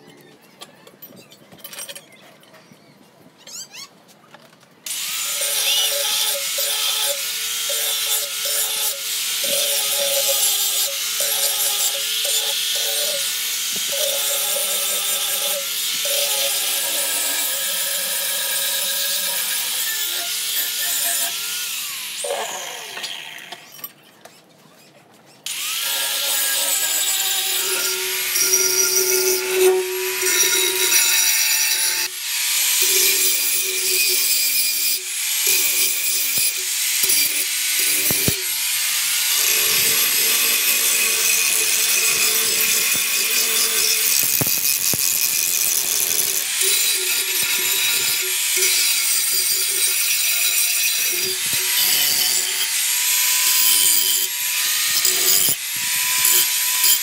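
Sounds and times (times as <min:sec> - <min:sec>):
angle grinder cutting steel: 0:04.9 - 0:24.0, 0:25.5 - 0:57.0.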